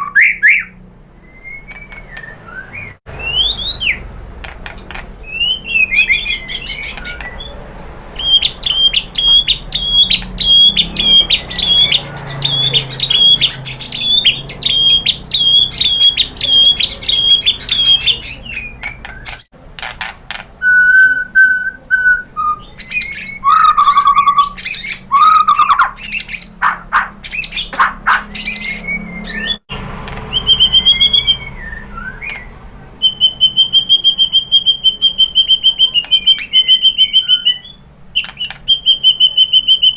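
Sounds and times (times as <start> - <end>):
bird singing varied song: 0.0 - 19.5, 20.6 - 39.9.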